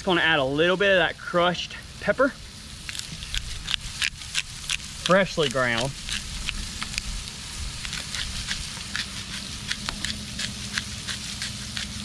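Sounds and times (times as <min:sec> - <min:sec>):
fish sizzling over charcoal: 0:00.0 - 0:12.0.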